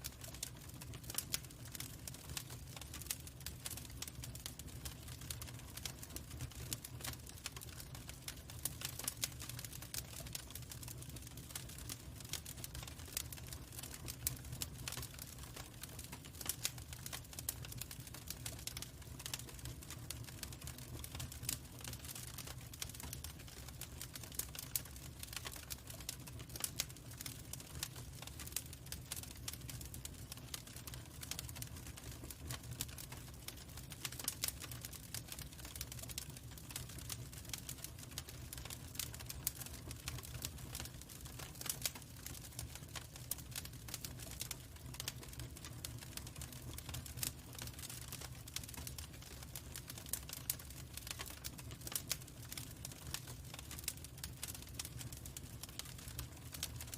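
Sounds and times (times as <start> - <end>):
log fire crackling: 0.0 - 56.9.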